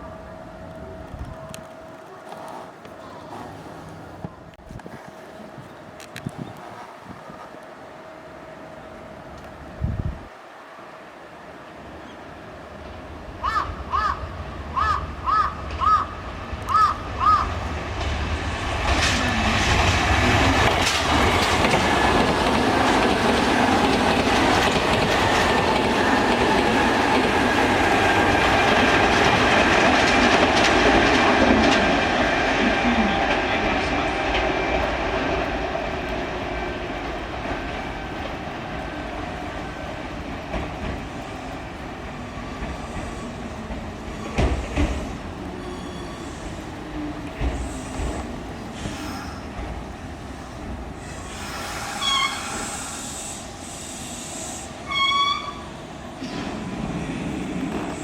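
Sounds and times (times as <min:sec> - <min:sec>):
electric train passing: 0:00.0 - 0:58.0
wheels clattering over rail joints: 0:01.2 - 0:07.8, 0:15.6 - 0:52.5, 0:54.9 - 0:58.0.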